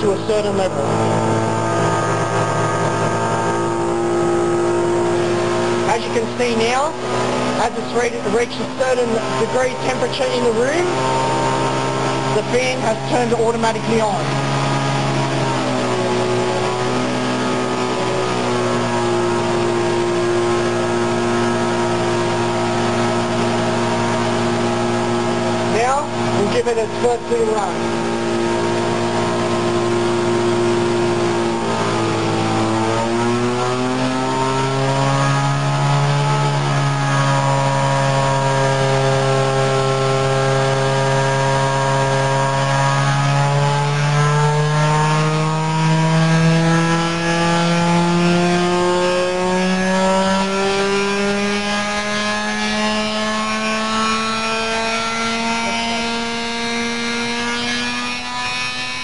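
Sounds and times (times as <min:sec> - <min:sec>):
model engine buzzing whine: 0:00.0 - 0:59.0.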